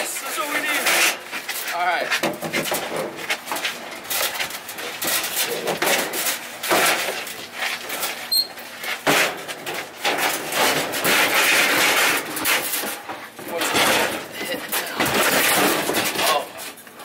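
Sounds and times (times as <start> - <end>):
metal clunks and scraping: 0.8 - 16.8.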